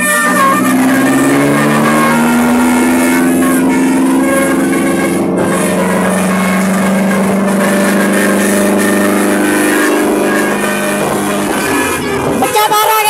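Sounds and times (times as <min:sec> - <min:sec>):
bus air horns chord: 0:00.0 - 0:13.0
bus road noise: 0:00.0 - 0:13.0.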